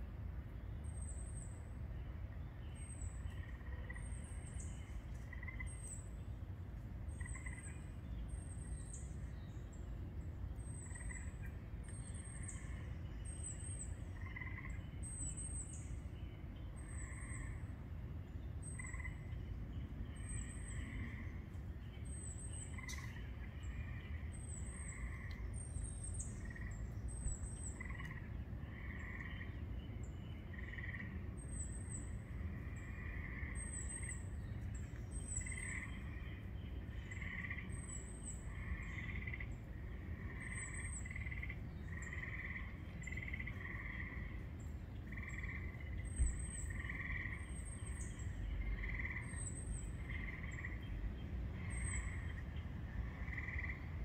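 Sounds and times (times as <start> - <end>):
steady low rumble: 0.0 - 54.0
faint lower bird chirps: 0.1 - 54.0.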